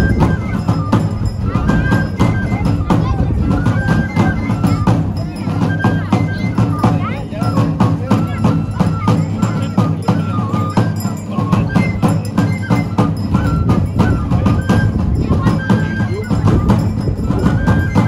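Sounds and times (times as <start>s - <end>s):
drum beating quick rhythm: 0.0s - 18.0s
high flute-like melody: 0.0s - 18.0s.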